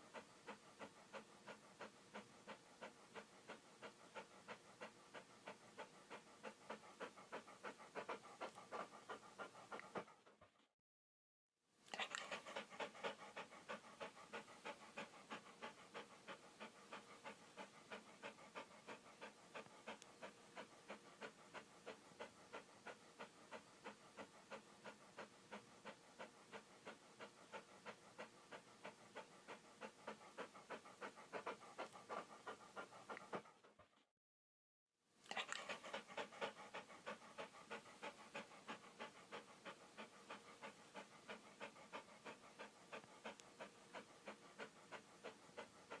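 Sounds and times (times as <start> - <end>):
dog panting: 0.0 - 10.7, 11.9 - 34.1, 35.3 - 46.0.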